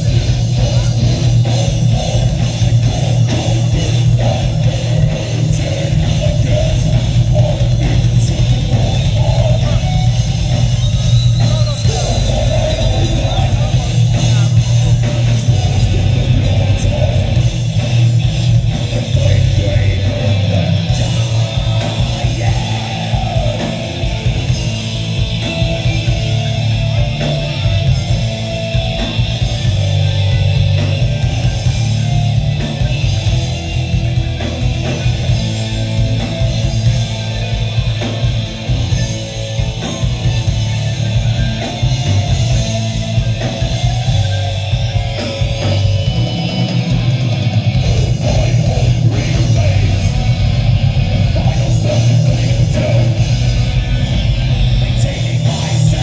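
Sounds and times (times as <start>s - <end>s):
bass guitar: 0.0s - 56.0s
distorted electric guitar: 0.0s - 56.0s
drum kit with cymbal hits: 0.0s - 56.0s.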